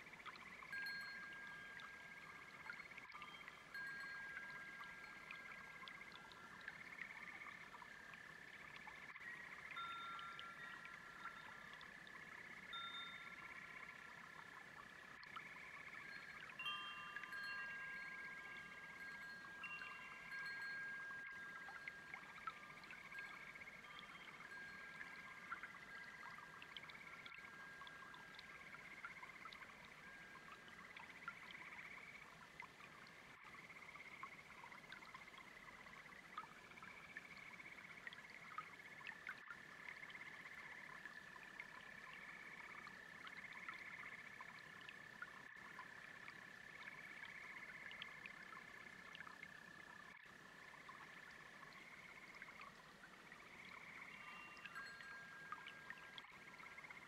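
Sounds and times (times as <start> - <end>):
brook trickling: 0.0 - 57.0
frogs and toads calling: 0.0 - 57.0.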